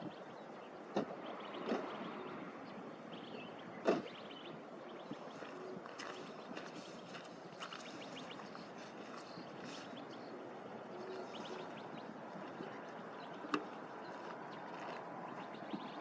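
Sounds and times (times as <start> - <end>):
small birds chirping: 0.0 - 16.0
steady background noise: 0.0 - 16.0.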